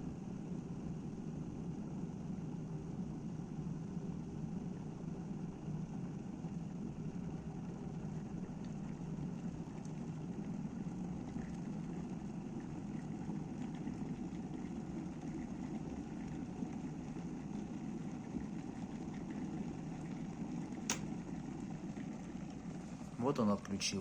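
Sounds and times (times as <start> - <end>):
electric kettle heating water: 0.0 - 24.0
faint crackles in kettle: 0.0 - 24.0.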